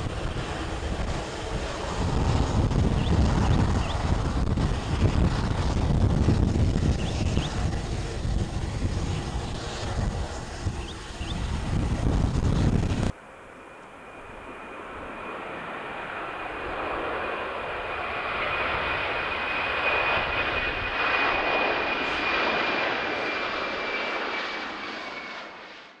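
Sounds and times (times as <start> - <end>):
high jet whine: 0.0 - 26.0
jet engines roaring on takeoff: 0.0 - 26.0.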